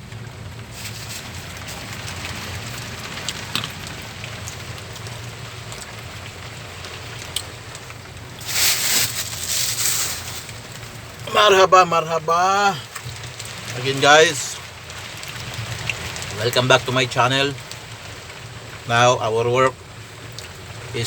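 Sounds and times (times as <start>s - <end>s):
heavy rain: 0.0s - 21.0s
low steady hum: 0.0s - 21.0s.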